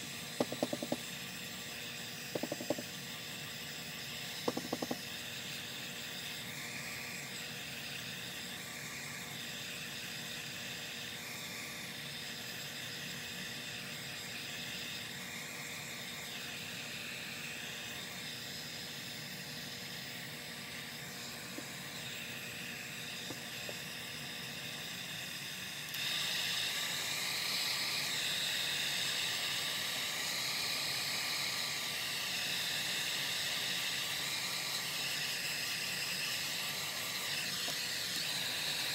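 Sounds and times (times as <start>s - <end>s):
heat gun blowing hot air: 0.0s - 38.9s.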